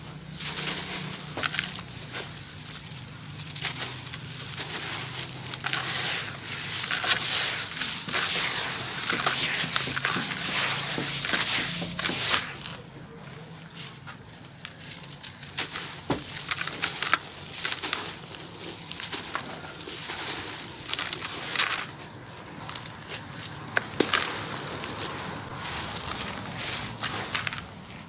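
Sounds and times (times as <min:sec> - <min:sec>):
crumbs pattering: 0:00.0 - 0:28.0
hands crushing sand-cement mix: 0:00.0 - 0:28.0.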